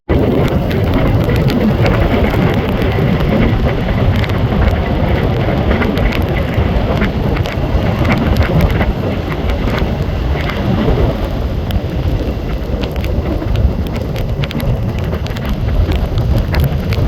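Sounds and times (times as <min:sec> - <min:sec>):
train wheels rumbling on rail: 0:00.1 - 0:17.0.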